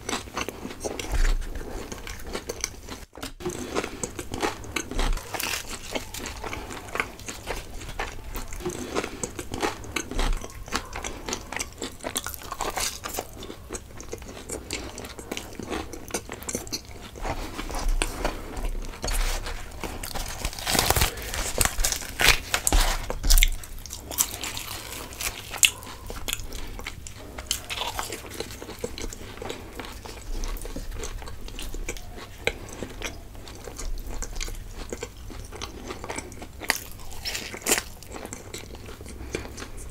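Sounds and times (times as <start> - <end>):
biting and chewing mouth sounds: 0.0 - 39.9.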